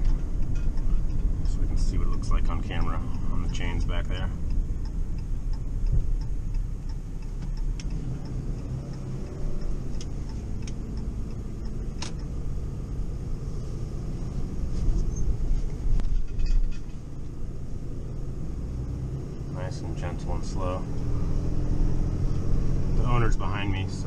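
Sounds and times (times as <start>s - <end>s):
engine and road rumble: 0.0s - 24.0s
turn signal ticking: 0.0s - 24.0s.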